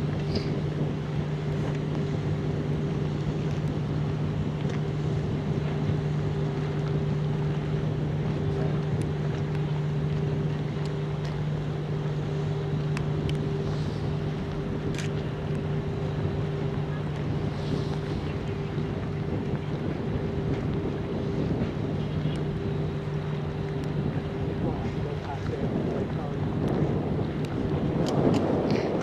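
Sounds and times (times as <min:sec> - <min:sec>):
ship diesel engines droning: 0:00.0 - 0:29.0
steady humming tones: 0:00.0 - 0:29.0
wind on microphone: 0:00.0 - 0:29.0.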